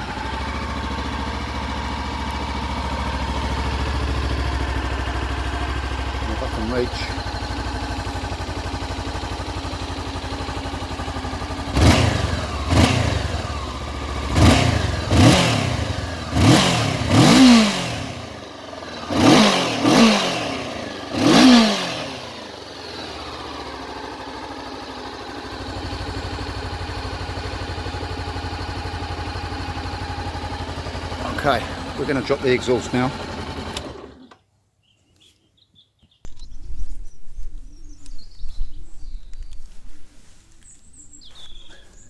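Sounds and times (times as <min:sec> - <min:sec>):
motorcycle engine idling and revving: 0:00.0 - 0:34.5, 0:36.3 - 0:42.0.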